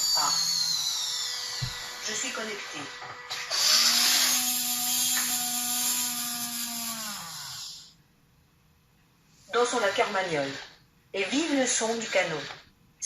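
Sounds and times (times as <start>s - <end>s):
whirring machine hum: 0.0s - 8.0s, 9.5s - 13.0s.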